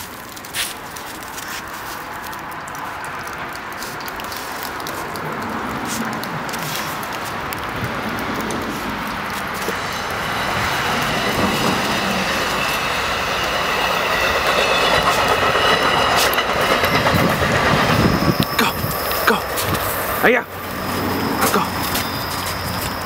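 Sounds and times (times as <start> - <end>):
vehicle passing: 1.3 - 23.0.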